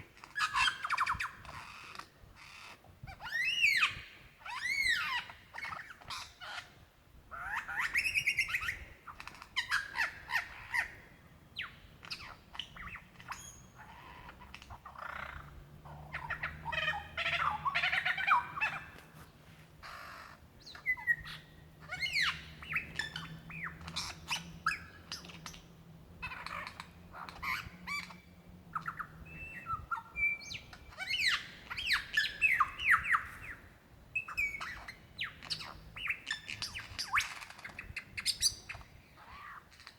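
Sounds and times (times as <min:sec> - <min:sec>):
lyrebird singing: 0:00.0 - 0:39.9.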